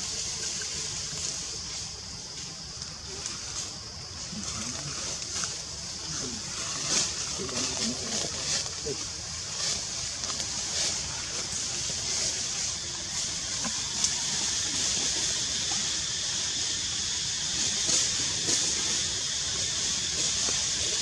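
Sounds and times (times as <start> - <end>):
high-pitched outdoor hiss: 0.0 - 21.0.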